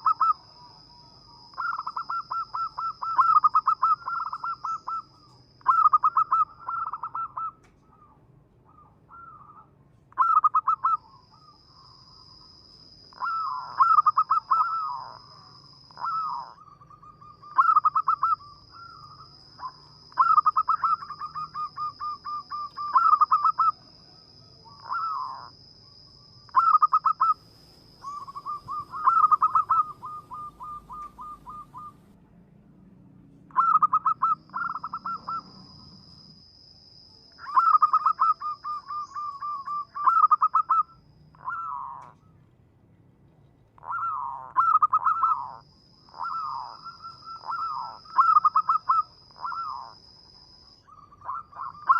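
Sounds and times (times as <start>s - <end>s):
dove cooing: 0.0s - 11.6s, 13.1s - 25.6s, 26.5s - 32.2s, 33.5s - 36.2s, 37.4s - 42.4s, 43.8s - 50.1s, 50.9s - 51.9s.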